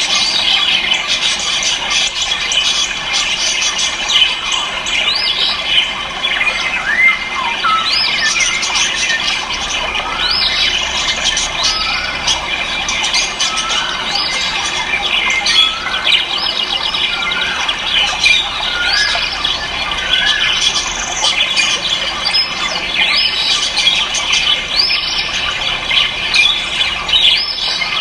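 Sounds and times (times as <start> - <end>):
chorus of bird squawks and chirps: 0.0 - 28.0.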